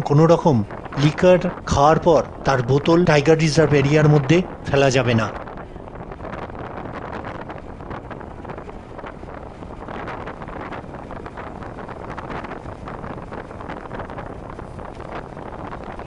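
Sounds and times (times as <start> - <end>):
moving vehicle noise: 0.0 - 16.0
wind buffeting microphone: 0.0 - 16.0.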